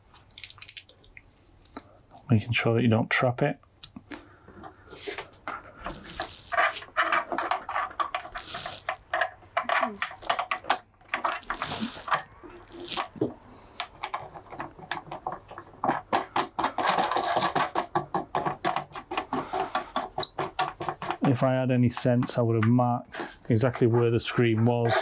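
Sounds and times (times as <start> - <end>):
plastic windscreen clicks and knocks: 4.6 - 25.0.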